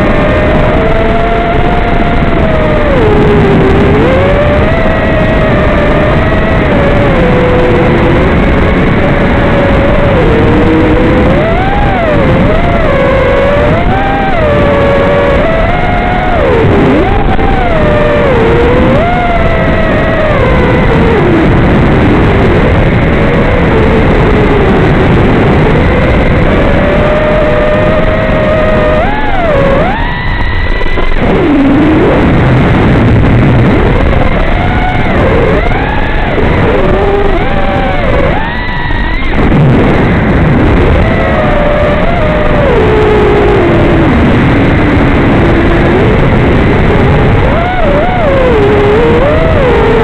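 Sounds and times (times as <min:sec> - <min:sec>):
drone motors whining: 0:00.0 - 0:50.0
loud rushing noise: 0:00.0 - 0:50.0.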